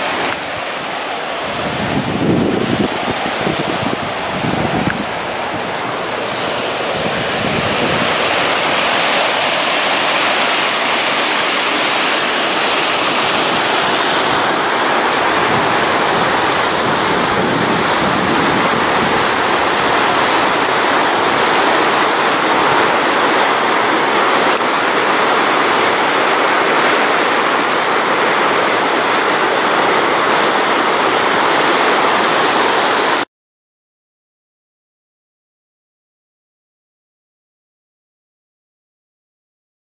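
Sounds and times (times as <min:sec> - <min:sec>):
water rushing through channel: 0:00.0 - 0:33.3.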